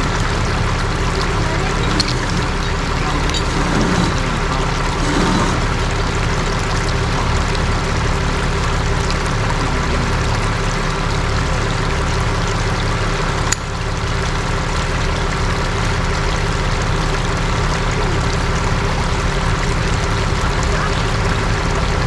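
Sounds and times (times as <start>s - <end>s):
vehicle engine hum and hiss: 0.0s - 22.0s.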